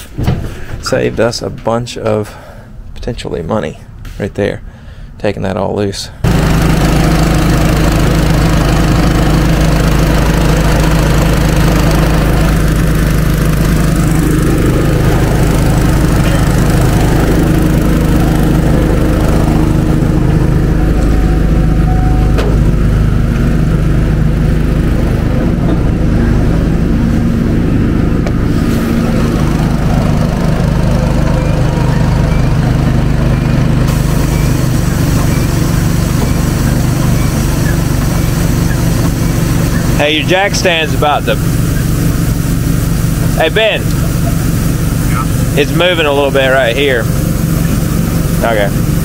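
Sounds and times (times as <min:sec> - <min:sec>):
welder generator engine drone: 0:06.2 - 0:49.0.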